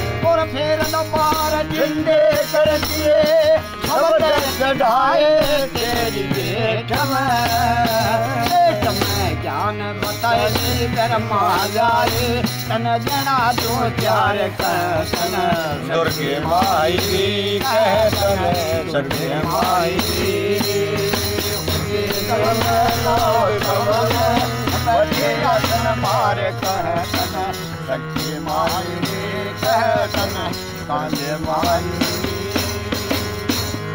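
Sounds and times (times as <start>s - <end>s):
harmonium: 0.0s - 33.9s
man singing devotional song: 0.0s - 33.9s
frame drum with jingles: 5.4s - 33.9s.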